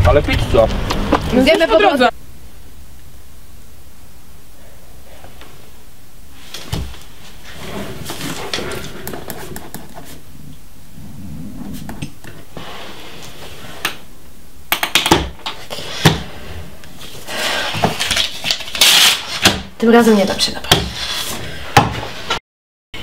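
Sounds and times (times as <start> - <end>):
steady hiss: 0.0 - 19.4.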